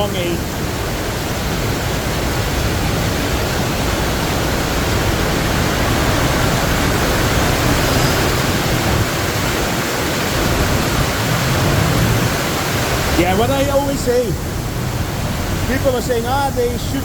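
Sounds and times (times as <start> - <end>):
heavy rain downpour: 0.0 - 17.0.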